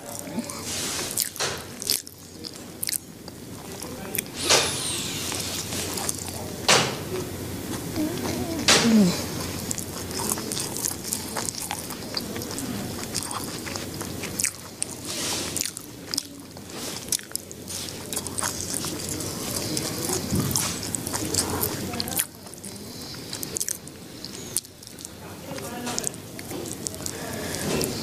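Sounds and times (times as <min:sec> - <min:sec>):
person chewing crunchy food: 0:00.0 - 0:28.0.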